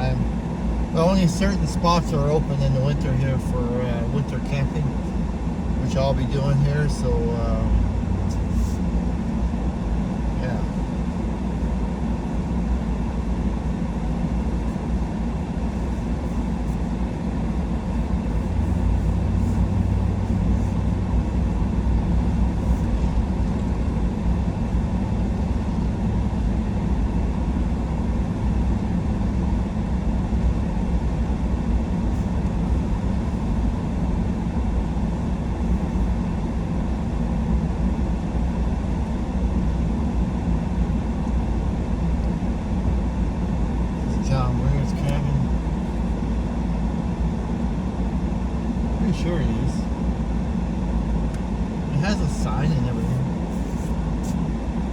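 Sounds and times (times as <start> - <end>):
truck engine and tyre rumble: 0.0 - 54.9.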